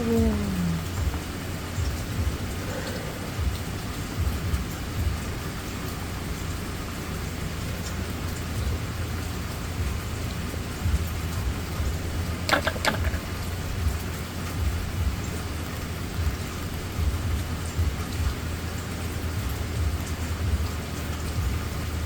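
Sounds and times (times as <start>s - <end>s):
low uneven rumble: 0.0s - 22.0s
rain hissing: 0.0s - 22.0s.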